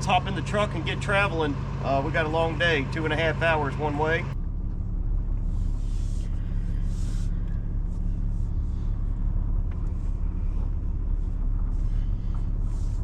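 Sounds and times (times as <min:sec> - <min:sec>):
road noise inside cab: 0:00.0 - 0:13.0
truck engine rumble: 0:00.0 - 0:13.0.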